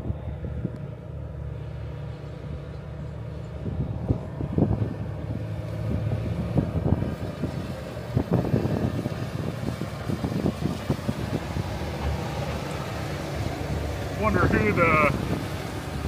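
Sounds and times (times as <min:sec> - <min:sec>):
low mechanical rumble: 0:00.0 - 0:16.0
wind buffeting microphone: 0:00.0 - 0:16.0.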